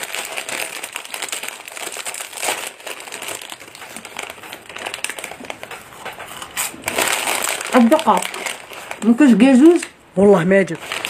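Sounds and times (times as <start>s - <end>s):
paper wrapper crinkling: 0.0s - 11.0s.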